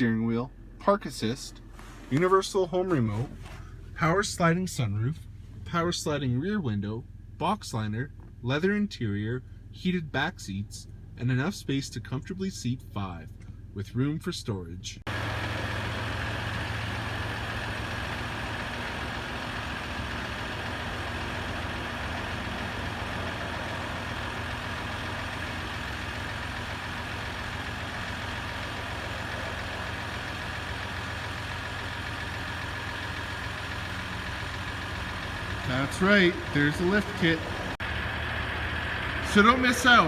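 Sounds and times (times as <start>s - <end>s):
diesel engine idling: 0.0s - 14.1s, 15.0s - 40.0s.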